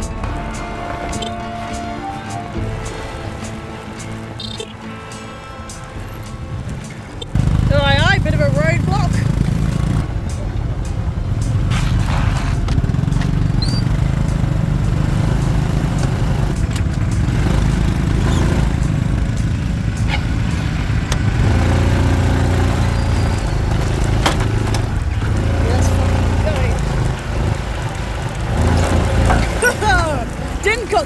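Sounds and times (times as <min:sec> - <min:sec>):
motorbike engine running: 0:00.0 - 0:31.0.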